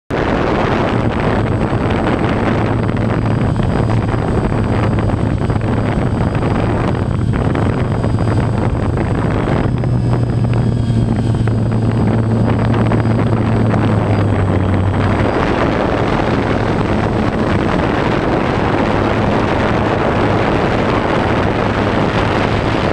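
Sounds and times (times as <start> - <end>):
prop wash and wind rushing: 0.1 - 22.9
drone motors humming: 0.2 - 22.9.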